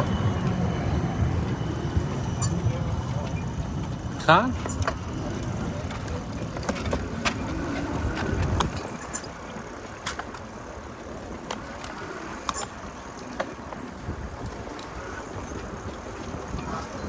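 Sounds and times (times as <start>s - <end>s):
bicycle clicks and rattles: 0.0s - 17.0s.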